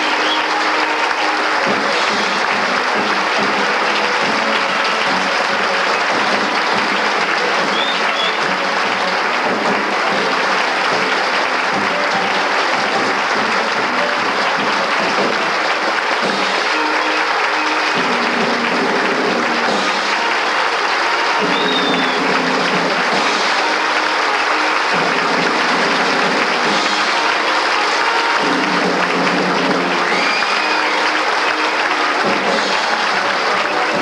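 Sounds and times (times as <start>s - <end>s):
audience applauding: 0.0s - 34.0s
instrumental music: 0.0s - 34.0s.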